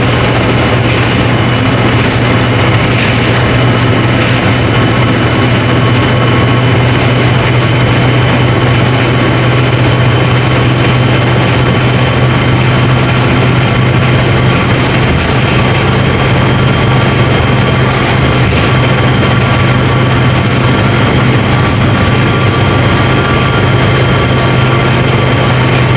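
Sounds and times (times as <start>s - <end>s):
bus diesel engine running: 0.0s - 25.9s.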